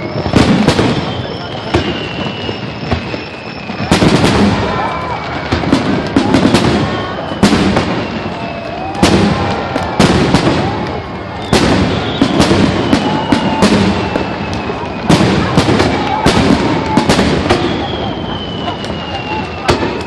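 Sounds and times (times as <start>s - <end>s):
firework crackle: 0.0s - 20.0s
firework shells bursting: 0.0s - 20.0s.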